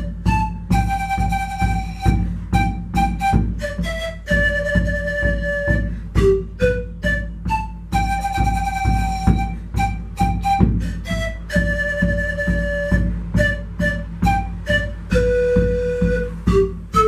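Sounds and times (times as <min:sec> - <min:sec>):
panpipes melody: 0:00.0 - 0:17.0
rhythmic accompaniment with low beat: 0:00.0 - 0:17.0.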